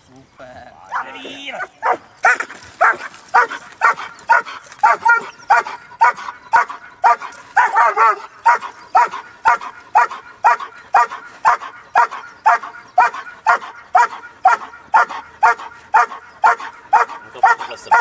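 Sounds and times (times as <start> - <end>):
puppy barking: 0.9 - 18.0.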